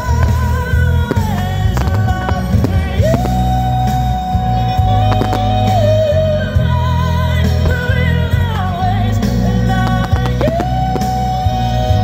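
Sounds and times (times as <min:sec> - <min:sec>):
person singing: 0:00.0 - 0:12.0
steady bass line: 0:00.0 - 0:12.0.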